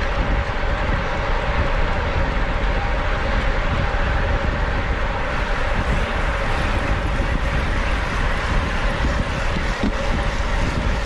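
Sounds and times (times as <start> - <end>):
bicycle road noise: 0.0 - 11.0
steady hum: 0.0 - 11.0
wind rush over microphone: 0.0 - 11.0.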